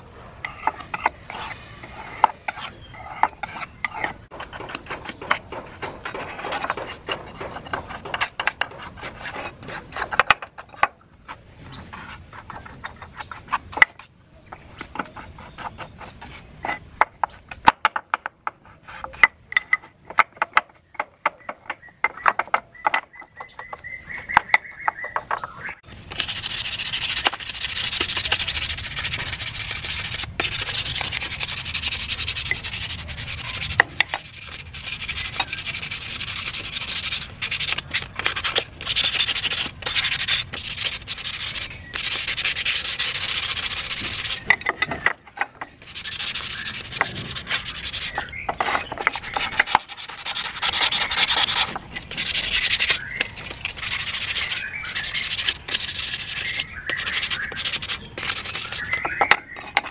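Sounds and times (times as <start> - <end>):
abrasive pad scrubbing metal: 0.5 - 16.9, 20.1 - 59.9.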